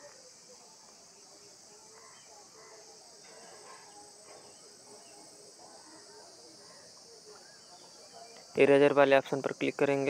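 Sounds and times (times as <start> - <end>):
faint distant voices: 0.0 - 10.0
insects chirring: 0.0 - 10.0.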